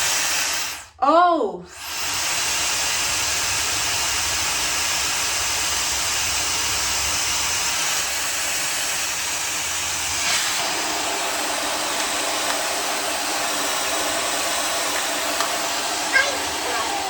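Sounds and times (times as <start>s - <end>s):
hair dryer blowing: 0.0s - 1.0s, 1.7s - 17.0s.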